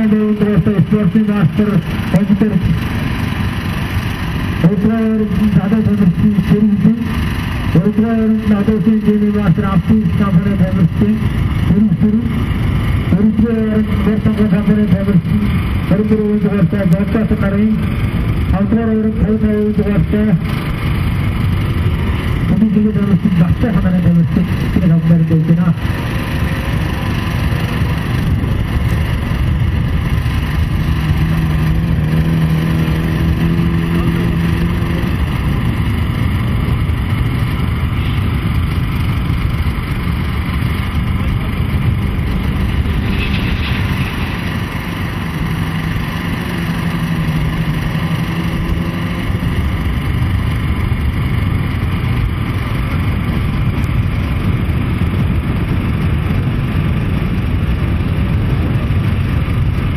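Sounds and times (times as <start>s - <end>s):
held engine note: 0.0s - 59.9s
racing off-road vehicle engines: 0.0s - 59.9s.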